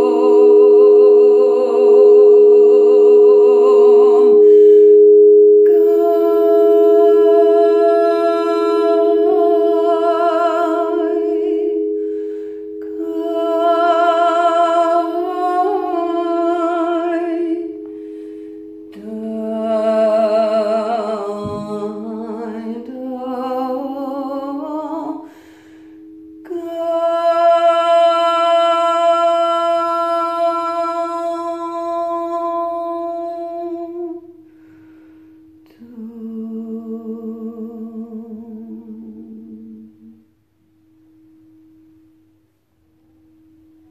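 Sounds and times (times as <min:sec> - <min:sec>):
woman singing wordless tones: 0:00.0 - 0:34.4, 0:35.6 - 0:40.3
singing bowls ringing: 0:00.0 - 0:43.9.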